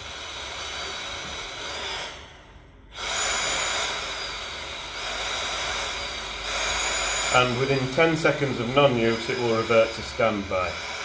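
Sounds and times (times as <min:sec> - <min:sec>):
respirator fan whirring: 0:00.0 - 0:11.0.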